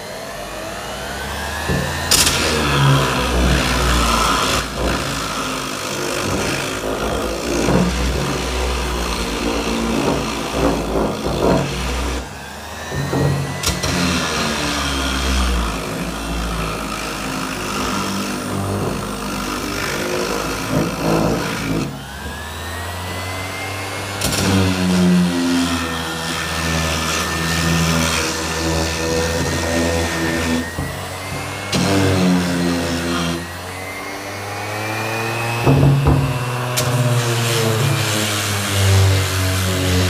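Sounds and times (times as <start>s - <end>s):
orbital sander sanding wood: 0.0s - 40.0s.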